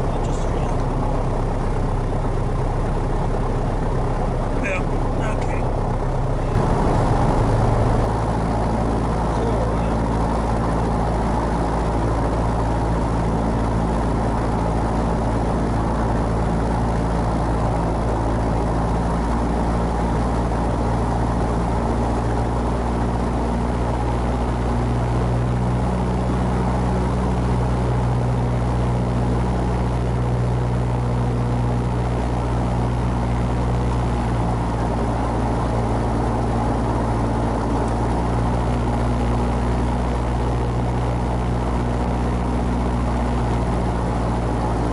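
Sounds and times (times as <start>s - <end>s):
propeller plane engine idling: 0.0s - 44.9s.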